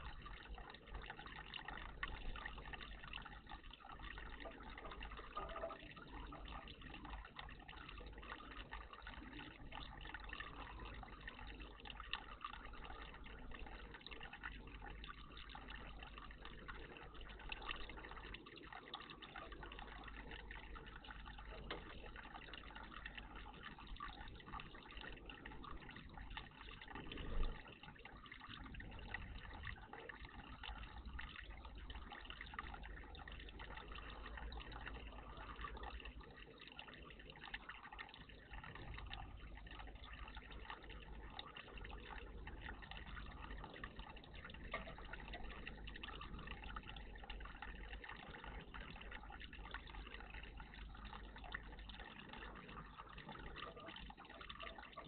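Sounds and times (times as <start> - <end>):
water trickling in bird bath: 0.0 - 55.0.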